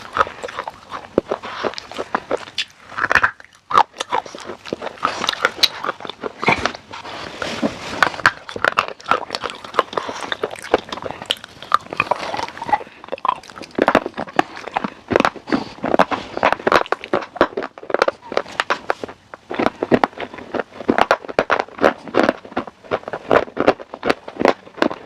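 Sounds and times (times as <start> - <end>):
crunchy food chewing: 0.0 - 25.0.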